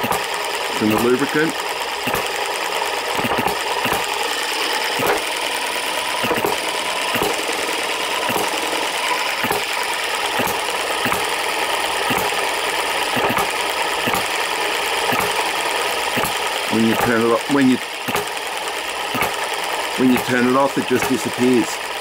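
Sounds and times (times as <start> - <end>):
sharp engine knocks: 0.0 - 21.3
model engine clattering: 0.0 - 22.0.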